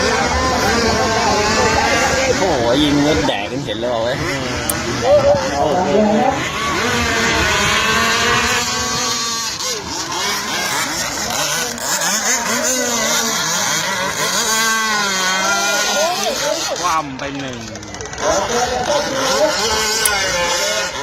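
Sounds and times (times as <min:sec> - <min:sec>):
model boat engines racing: 0:00.0 - 0:21.0.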